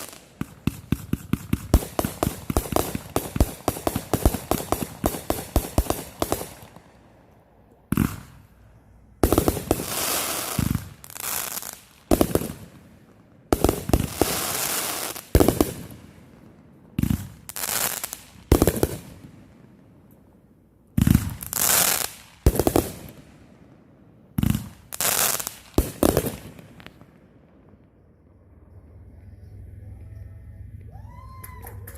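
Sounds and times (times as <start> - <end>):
crackling firework bursts: 0.0 - 7.0, 7.9 - 19.5, 21.0 - 29.2.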